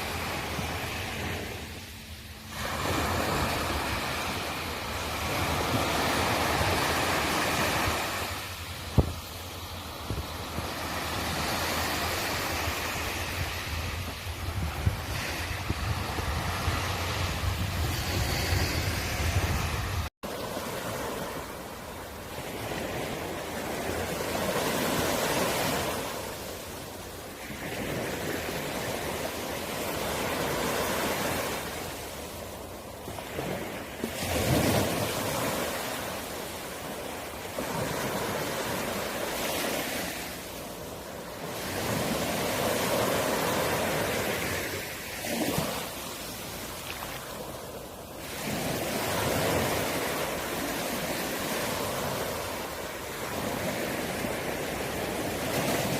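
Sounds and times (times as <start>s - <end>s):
sea waves breaking on beach: 0.0s - 55.9s.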